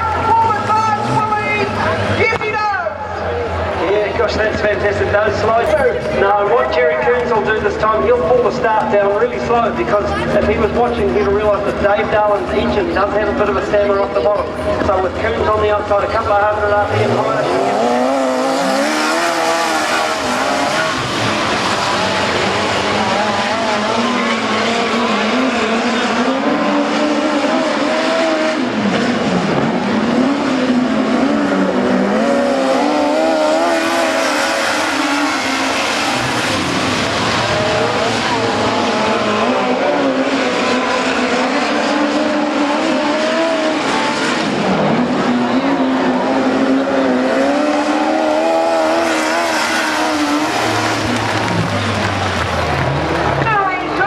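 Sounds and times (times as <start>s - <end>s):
race car engines: 0.0s - 54.0s.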